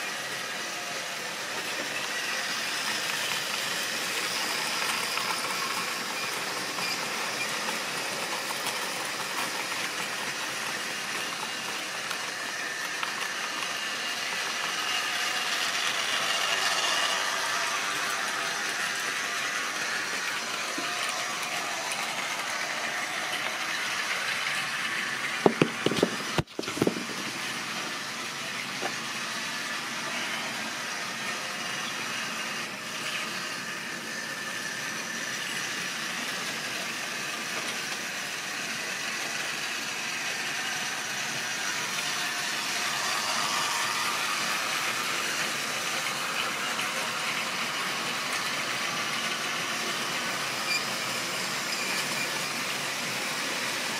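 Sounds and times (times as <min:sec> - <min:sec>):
model train rattling on track: 0:00.0 - 0:53.9.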